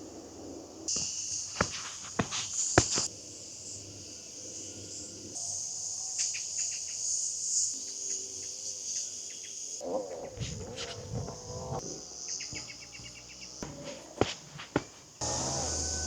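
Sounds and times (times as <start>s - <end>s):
insects trilling: 0.1s - 16.0s.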